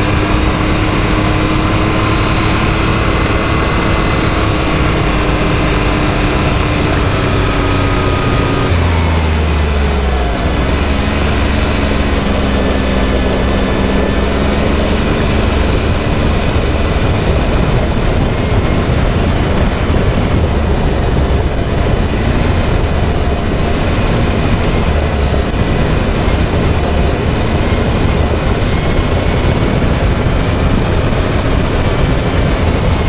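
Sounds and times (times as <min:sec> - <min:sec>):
trail driving rush: 0:00.0 - 0:33.0
vehicle engine rumbling: 0:00.0 - 0:33.0.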